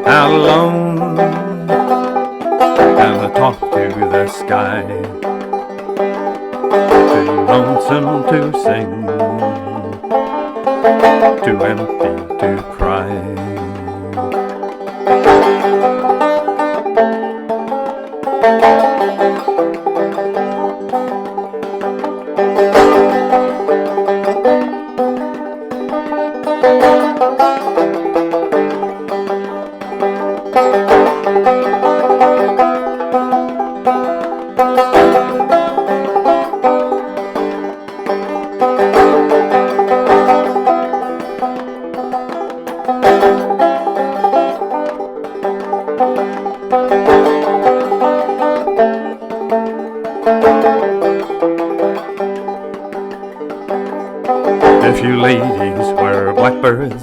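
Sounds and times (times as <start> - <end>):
banjo playing: 0.0 - 57.0.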